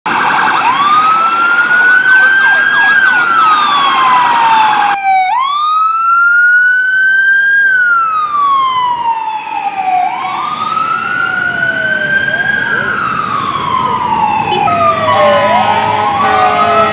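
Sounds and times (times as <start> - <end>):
second siren wailing: 0.1 - 16.9
siren wailing: 0.1 - 16.9.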